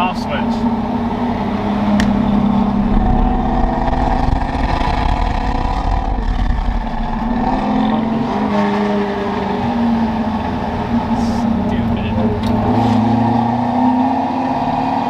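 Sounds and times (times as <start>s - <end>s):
truck engine exhaust rumble: 0.0s - 13.3s.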